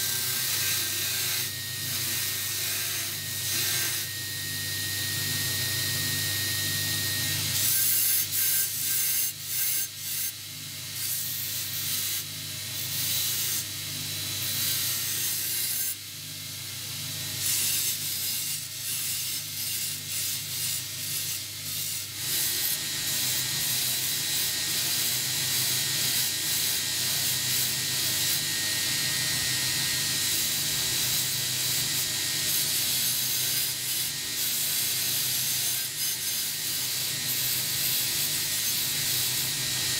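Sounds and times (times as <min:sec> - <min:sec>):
steel grinding on belt: 0:00.0 - 0:04.8, 0:07.1 - 0:16.1, 0:17.3 - 0:39.9
grinder motor hum: 0:00.0 - 0:39.9.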